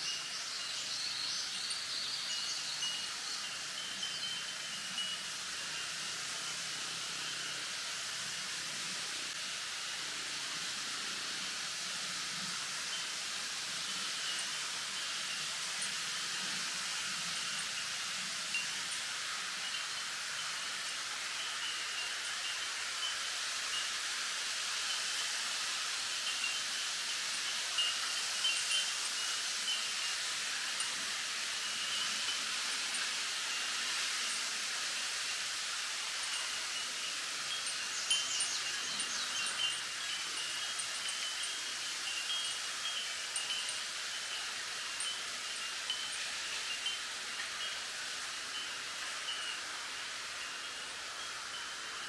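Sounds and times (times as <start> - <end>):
wind rustling bamboo leaves: 0.0 - 52.0.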